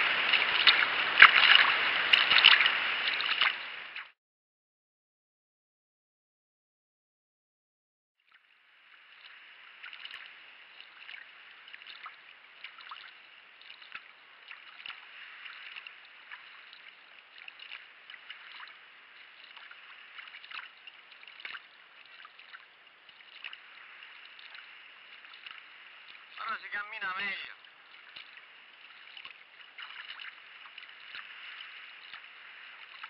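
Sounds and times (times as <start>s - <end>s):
water splashing around kayak paddle: 0.0s - 4.2s, 8.3s - 33.0s.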